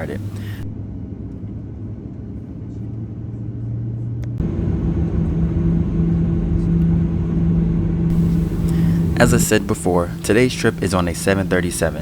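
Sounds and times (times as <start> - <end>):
airliner rumble and hum: 0.0 - 12.0.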